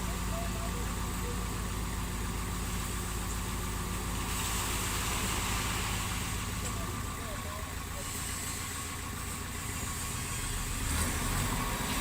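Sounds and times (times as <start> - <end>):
construction machine engine running: 0.0 - 12.0.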